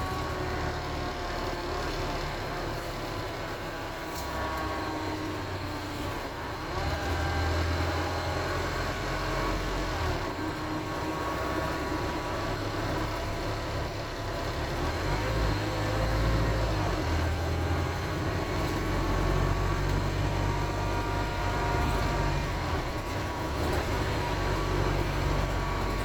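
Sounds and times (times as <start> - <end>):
bus diesel engine groaning: 0.0 - 26.0.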